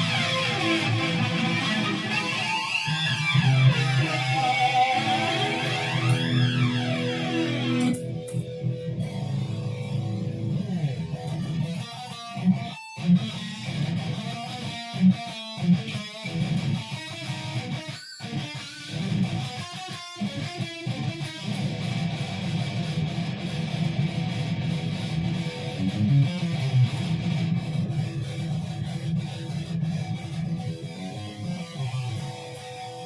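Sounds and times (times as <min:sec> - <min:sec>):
guitar strumming and picking: 0:00.0 - 0:33.0.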